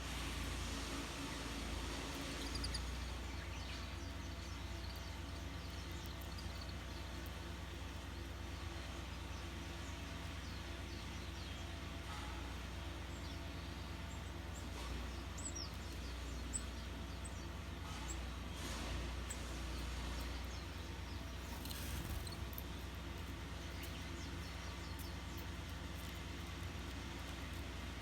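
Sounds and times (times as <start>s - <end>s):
steady low hum: 0.0s - 28.0s
small birds chirping: 1.0s - 28.0s.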